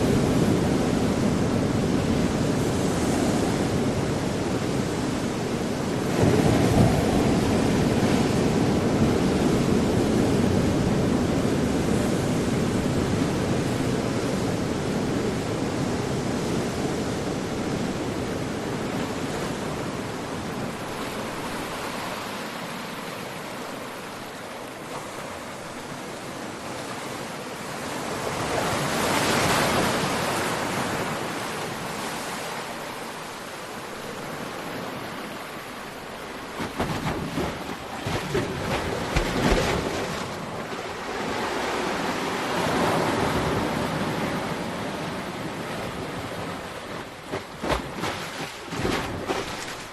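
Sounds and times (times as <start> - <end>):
ocean waves washing onto shore: 0.0 - 49.9.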